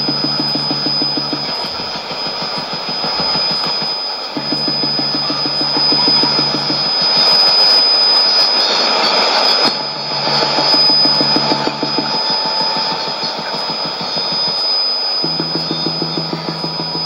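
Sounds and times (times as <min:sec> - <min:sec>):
high-pitched whistle: 0:00.0 - 0:17.0
radio static hiss: 0:00.0 - 0:17.0
rapidly pulsing buzz: 0:00.0 - 0:17.0.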